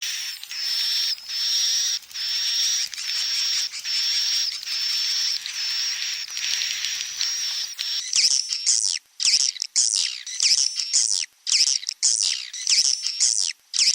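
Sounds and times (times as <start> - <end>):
raspy swiftlet calls: 0.0 - 13.9
twittering bird chirps: 0.1 - 13.9.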